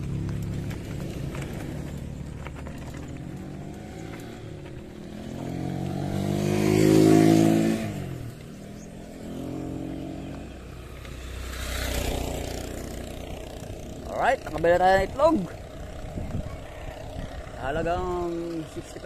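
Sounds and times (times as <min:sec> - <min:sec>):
fainter vehicle engine: 0:00.0 - 0:19.0
vehicle passing by: 0:00.0 - 0:19.0.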